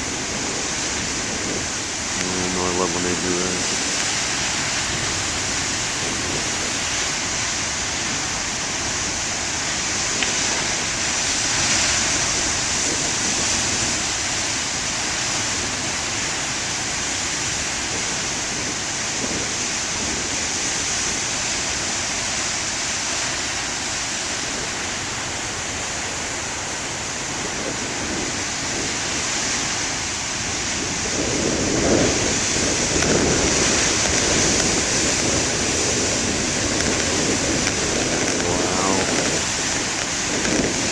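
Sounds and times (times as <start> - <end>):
ocean surf breaking on shore: 0.0 - 40.9.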